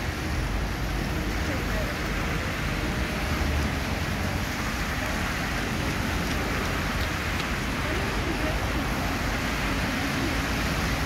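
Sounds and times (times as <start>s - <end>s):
cars driving on wet road: 0.0s - 11.0s
heavy rain on wet street: 0.0s - 11.0s.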